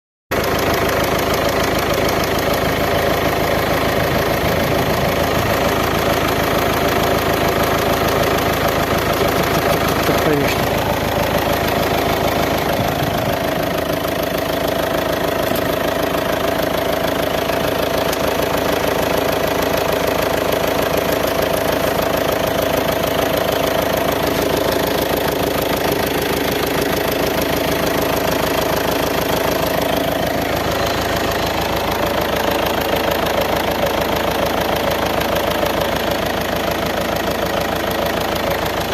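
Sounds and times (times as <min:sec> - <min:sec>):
diesel engine idling clatter: 0:00.3 - 0:38.9
steady engine whine: 0:00.4 - 0:38.9.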